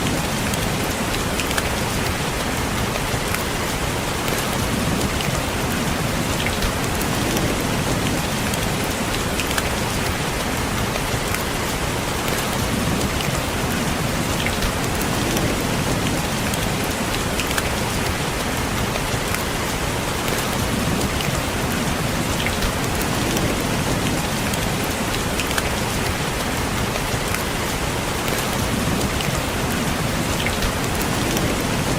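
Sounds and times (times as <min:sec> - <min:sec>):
raindrops tapping on a window: 0:00.0 - 0:31.9
steady rain falling: 0:00.0 - 0:31.9.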